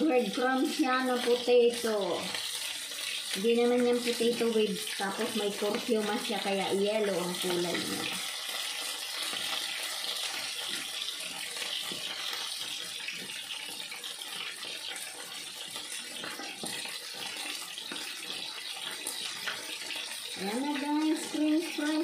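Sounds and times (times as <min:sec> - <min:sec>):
deep-frying sizzle: 0:00.0 - 0:22.0.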